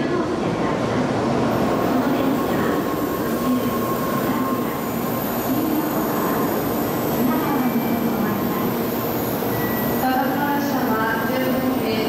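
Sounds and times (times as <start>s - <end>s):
high-pitched whine: 1.5s - 12.0s.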